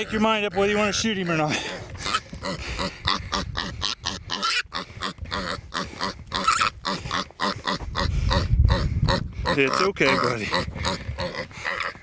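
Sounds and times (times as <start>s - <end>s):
young hog squealing: 0.0s - 12.0s
low rumble on microphone: 1.8s - 12.0s.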